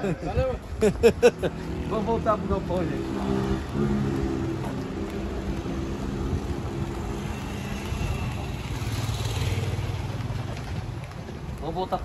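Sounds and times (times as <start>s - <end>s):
motorcycle engine approaching: 1.5s - 11.4s.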